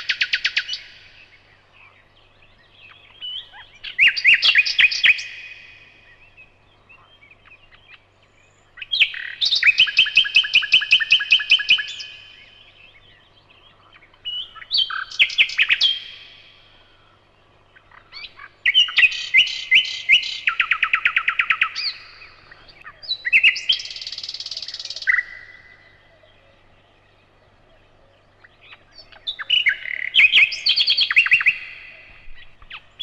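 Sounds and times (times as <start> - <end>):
nightingale singing: 0.0 - 33.0.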